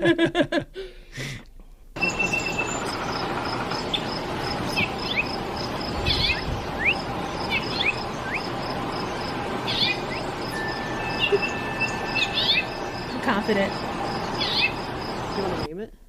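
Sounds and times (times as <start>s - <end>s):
background hiss: 0.0s - 16.0s
finch chirping: 2.0s - 15.7s
steady high pulse: 2.0s - 15.7s.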